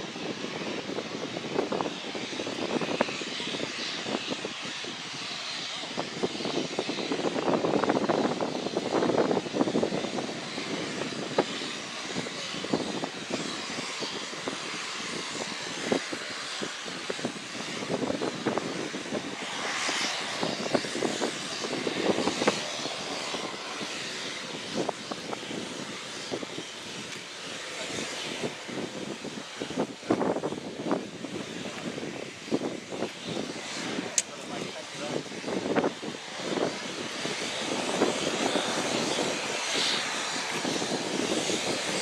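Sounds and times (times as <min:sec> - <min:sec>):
turboprop engines running: 0:00.0 - 0:42.0.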